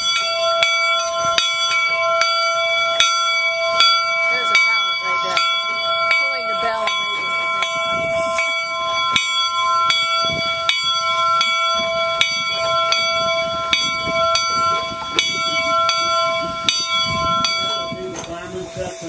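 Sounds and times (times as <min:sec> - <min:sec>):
locomotive bell ringing: 0:00.0 - 0:19.0.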